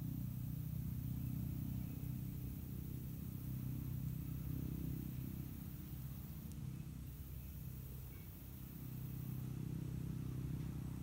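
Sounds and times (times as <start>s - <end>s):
faint hiss: 0.0s - 11.0s
low background rumble: 0.0s - 11.0s.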